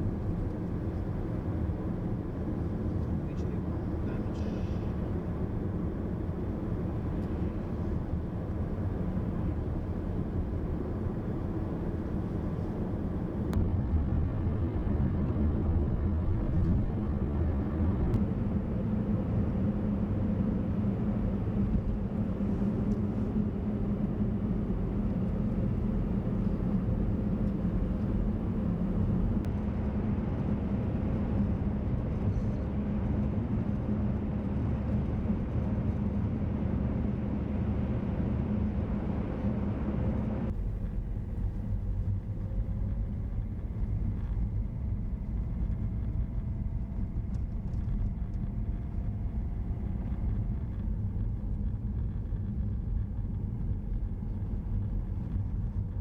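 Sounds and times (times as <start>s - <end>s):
car road rumble: 0.0s - 56.0s.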